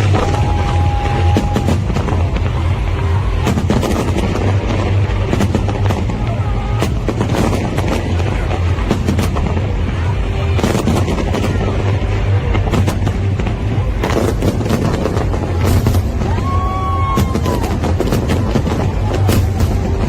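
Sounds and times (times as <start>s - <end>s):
deep rumble: 0.0s - 20.0s
fireworks bangs: 0.0s - 20.0s.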